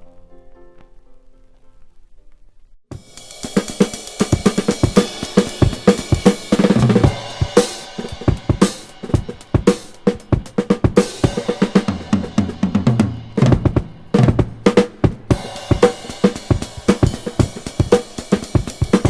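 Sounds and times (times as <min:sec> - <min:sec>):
soft keyboard music: 0:00.0 - 0:19.0
rock music with drum kit: 0:02.9 - 0:19.0.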